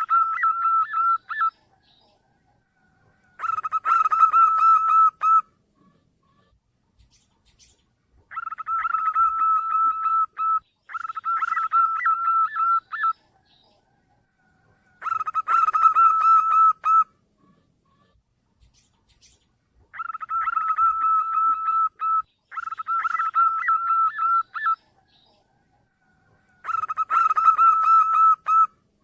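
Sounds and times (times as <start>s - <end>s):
dove cooing: 0.0s - 7.7s, 8.3s - 28.8s.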